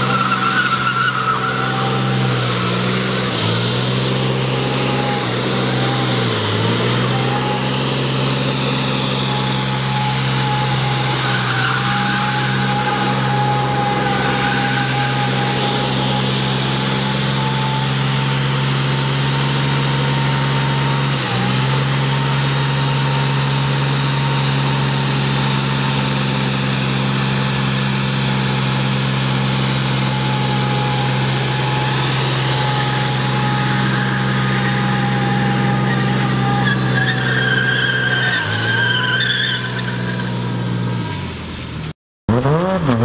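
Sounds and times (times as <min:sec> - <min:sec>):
vehicle engine steady: 0:00.0 - 0:43.0.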